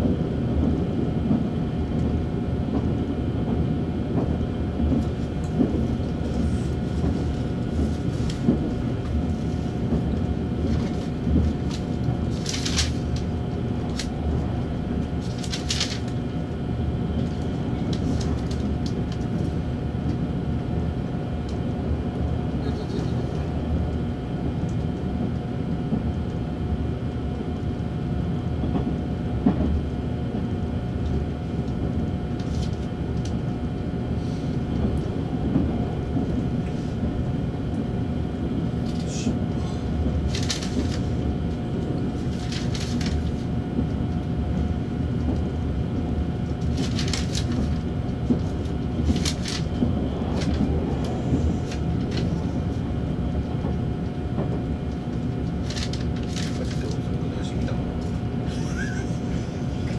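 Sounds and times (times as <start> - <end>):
constant electric hum: 0.0 - 59.9
train wheels rumbling on rail: 0.0 - 59.9.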